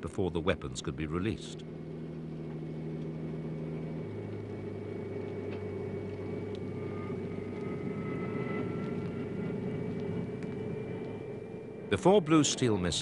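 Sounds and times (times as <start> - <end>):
engine droning: 0.0 - 13.0
faint rising whine: 0.0 - 13.0.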